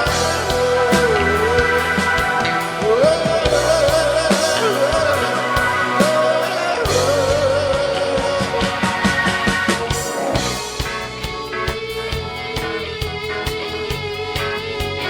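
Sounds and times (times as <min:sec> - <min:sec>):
drums: 0:00.0 - 0:15.0
lead melody with slides: 0:00.0 - 0:15.0
live rock band playing: 0:00.0 - 0:15.0.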